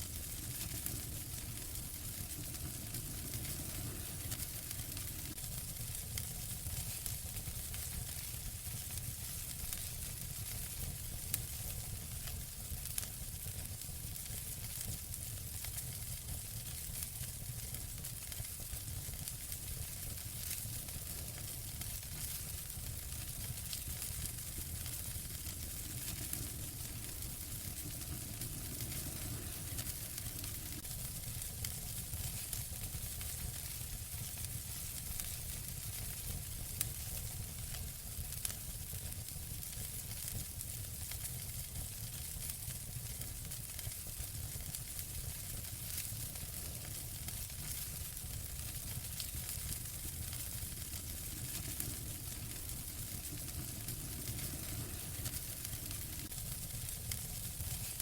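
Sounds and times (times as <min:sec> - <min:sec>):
fire crackles and pops: 0:00.0 - 0:58.0
fire hissing and rumbling: 0:00.0 - 0:58.0.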